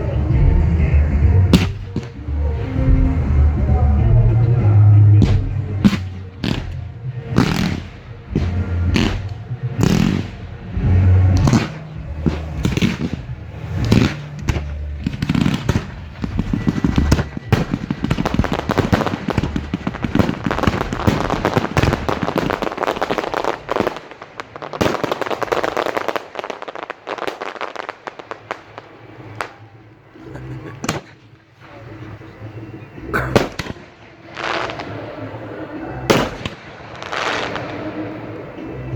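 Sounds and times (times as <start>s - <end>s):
fireworks crackling: 0.0s - 38.9s
fireworks sharp bangs: 0.0s - 38.9s.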